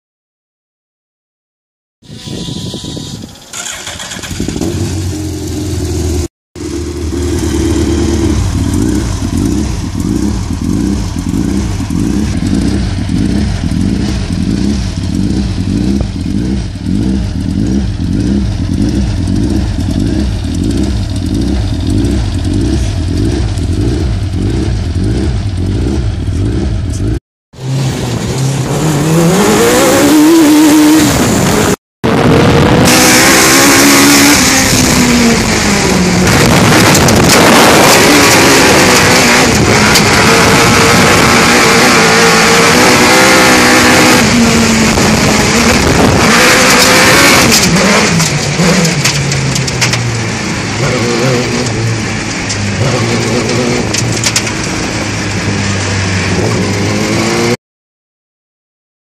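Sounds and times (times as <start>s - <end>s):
engine idling and revving: 3.2s - 57.6s.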